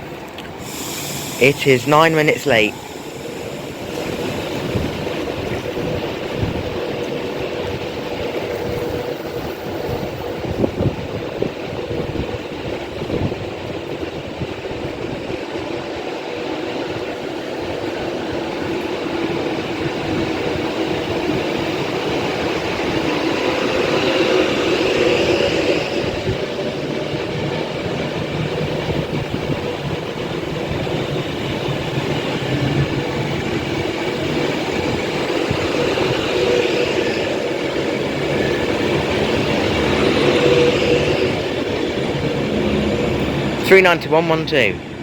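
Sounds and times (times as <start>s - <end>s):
train wheels rumbling on rails: 2.7s - 43.7s.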